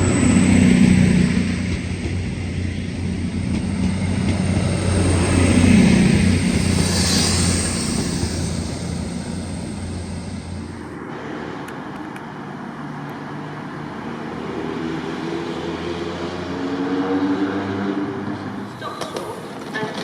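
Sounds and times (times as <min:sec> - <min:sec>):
train rumble and rail noise: 0:00.0 - 0:20.0.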